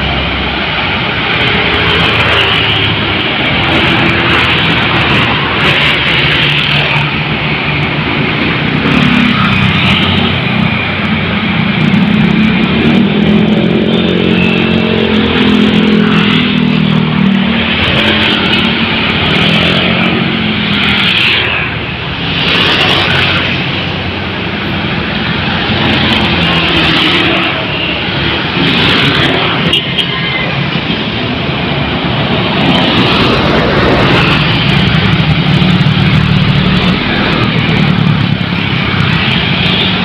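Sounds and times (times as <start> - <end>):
heavy vehicle engine drone: 0.0 - 40.0
tyre and traffic noise: 0.0 - 40.0.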